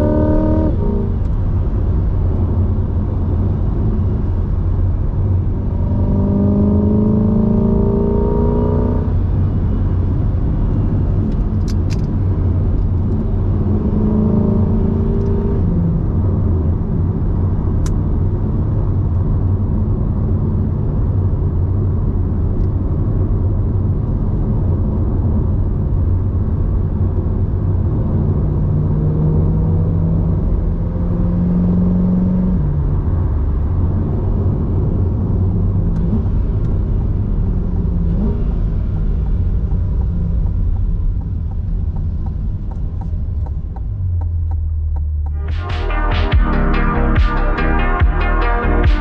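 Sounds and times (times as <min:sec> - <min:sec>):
car engine droning: 0:00.0 - 0:49.0.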